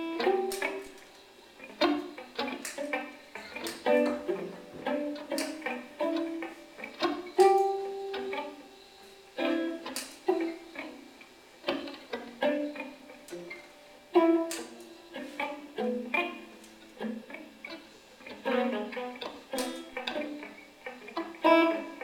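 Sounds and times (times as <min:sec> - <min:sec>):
electric guitar plucked notes: 0:00.0 - 0:22.0.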